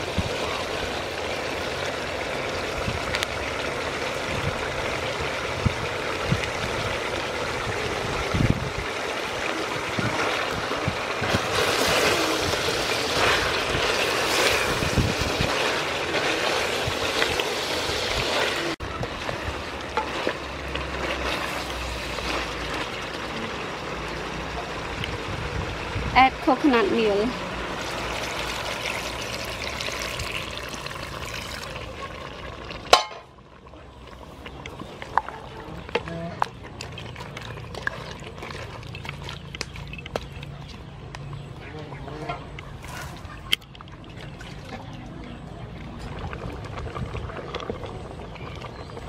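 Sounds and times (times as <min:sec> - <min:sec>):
curry sizzling in a pot: 0:00.0 - 0:40.4.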